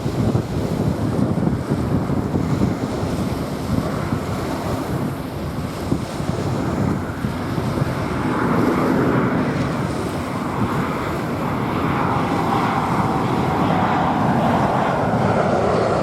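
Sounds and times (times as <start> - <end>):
jet airliner roar: 0.0 - 16.0
small waves on sandy beach: 0.0 - 16.0
wind buffeting microphone: 0.0 - 16.0.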